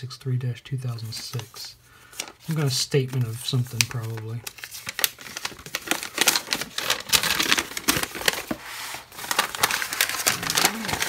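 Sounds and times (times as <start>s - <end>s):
paper rustling and crinkling: 1.0s - 11.0s.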